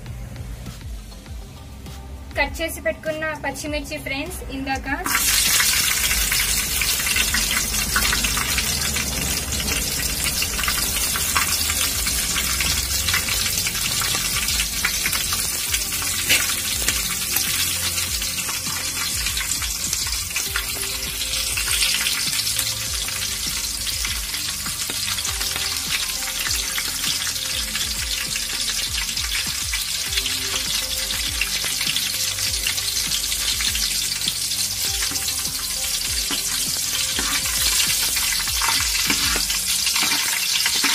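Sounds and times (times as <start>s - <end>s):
spices sizzling in hot oil: 4.6s - 40.9s.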